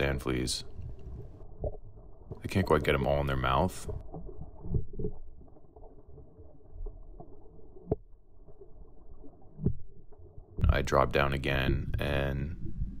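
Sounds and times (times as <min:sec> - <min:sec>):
muffled underwater water rumble: 0:00.0 - 0:13.0.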